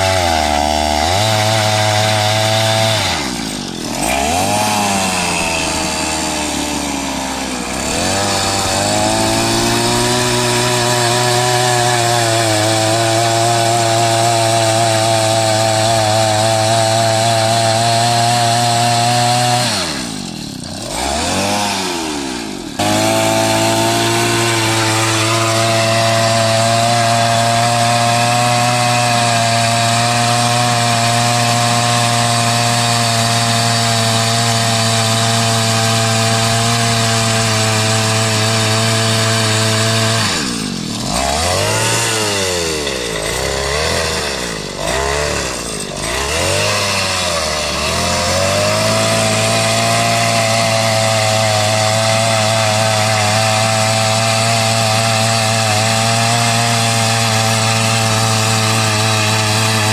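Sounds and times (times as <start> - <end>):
earth auger engine running: 0.0 - 59.9.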